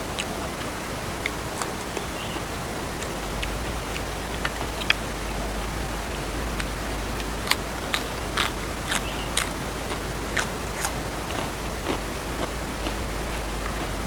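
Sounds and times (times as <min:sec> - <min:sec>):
background hiss: 0:00.0 - 0:14.0
crisp biting and chewing: 0:00.1 - 0:14.0.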